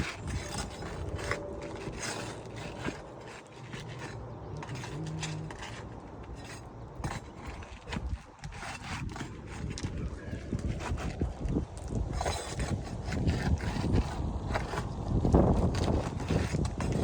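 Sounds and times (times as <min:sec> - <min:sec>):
roof shingle scraping: 0:00.0 - 0:17.0.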